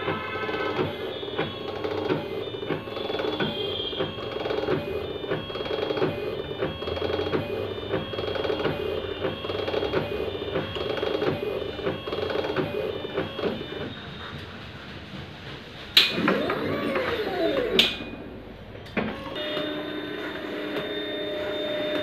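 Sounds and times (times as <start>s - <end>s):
machine clicks: 0.0s - 13.9s, 16.0s - 19.7s
paint tinting machine whirring: 0.0s - 22.0s.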